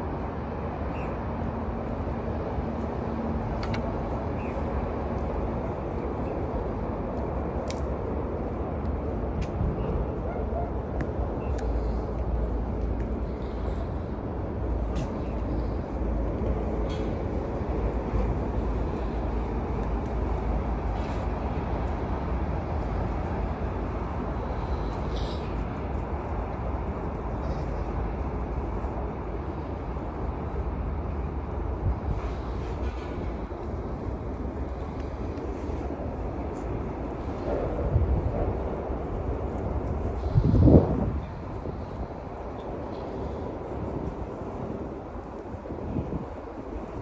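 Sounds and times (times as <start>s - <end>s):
low outdoor rumble: 0.0s - 47.0s.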